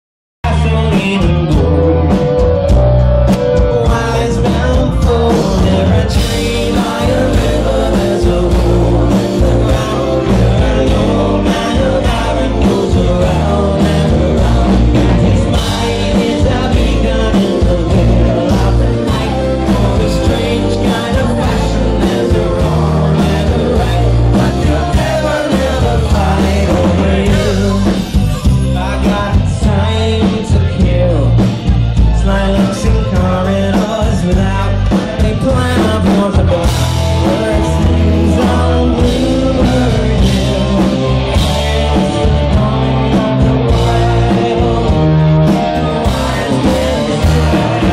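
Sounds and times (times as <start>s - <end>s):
bass guitar: 0.4s - 47.9s
drums: 0.4s - 47.9s
electric guitar: 0.4s - 47.9s
man singing lead: 0.4s - 47.9s.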